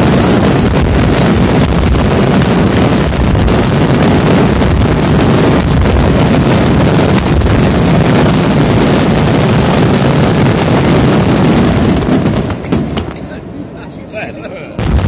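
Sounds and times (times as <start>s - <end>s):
fireworks bursting: 0.0s - 13.4s, 14.8s - 15.0s.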